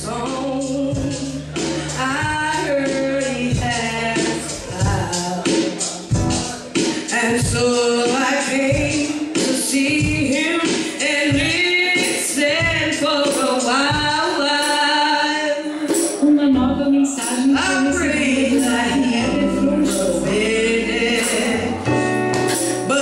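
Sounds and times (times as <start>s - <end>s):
keyboard: 0.0s - 14.2s, 15.6s - 23.0s
conga drums: 0.0s - 15.0s, 15.8s - 16.3s, 17.2s - 23.0s
woman singing soul ballad: 0.0s - 23.0s.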